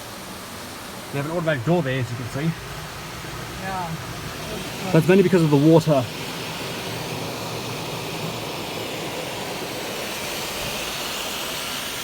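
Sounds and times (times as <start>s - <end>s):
water jets hissing: 0.0s - 12.0s.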